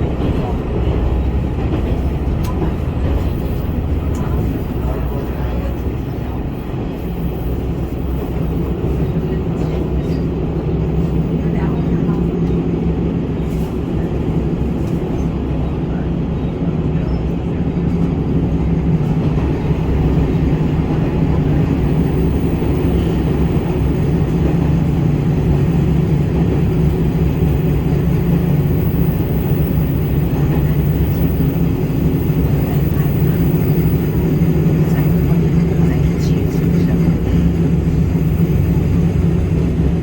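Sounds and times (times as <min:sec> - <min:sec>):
diesel railcar engine drone: 0:00.0 - 0:40.0.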